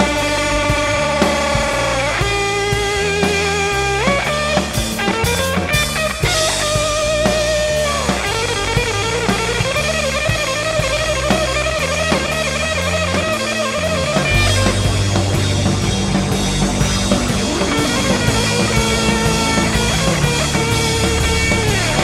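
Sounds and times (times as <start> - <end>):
instrumental rock music: 0.0 - 22.0
lead guitar with bends: 0.0 - 22.0.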